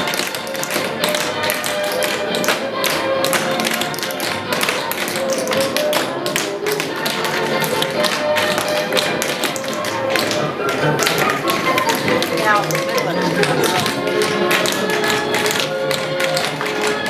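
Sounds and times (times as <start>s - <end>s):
holiday music: 0.0s - 17.0s
tap shoes on wooden floor: 0.0s - 17.0s.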